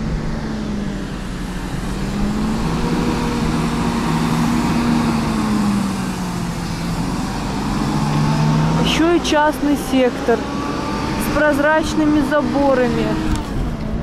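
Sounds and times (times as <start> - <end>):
bus engine humming: 0.0 - 14.0
road traffic noise: 0.0 - 14.0.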